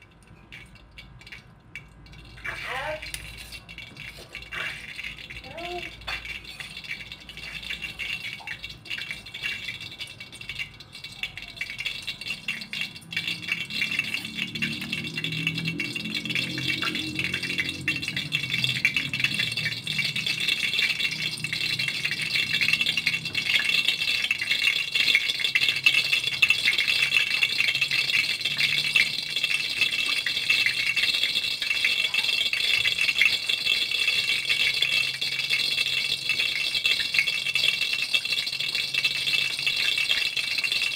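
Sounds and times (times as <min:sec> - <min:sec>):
oil crackling and sizzling in wok: 0:00.0 - 0:40.9.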